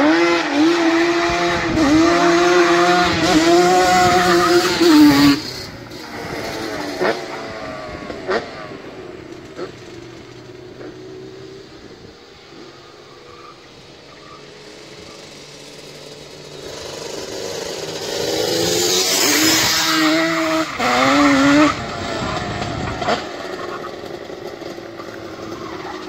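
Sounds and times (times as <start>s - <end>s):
quad engines revving: 0.0s - 26.0s.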